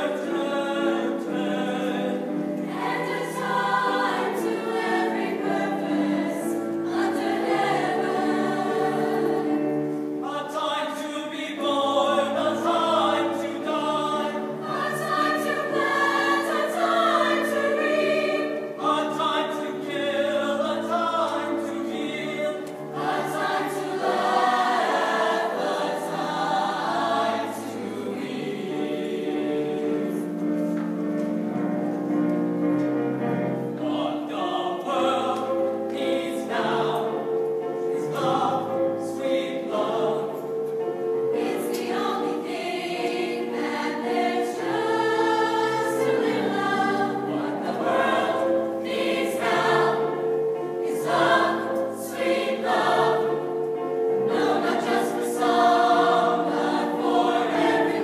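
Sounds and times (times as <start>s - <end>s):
choir singing in parts: 0.0s - 31.5s, 33.5s - 58.0s.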